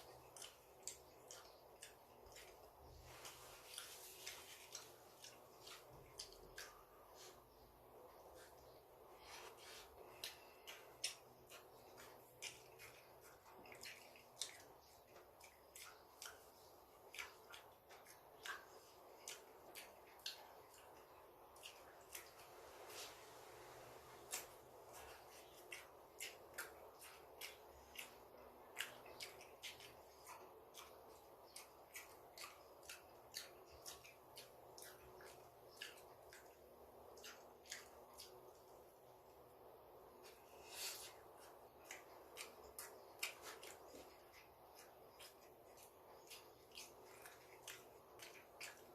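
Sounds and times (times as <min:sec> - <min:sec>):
chewing with wet mouth clicks: 0:00.0 - 0:22.6, 0:24.1 - 0:48.9
faint steady hiss: 0:00.0 - 0:48.9.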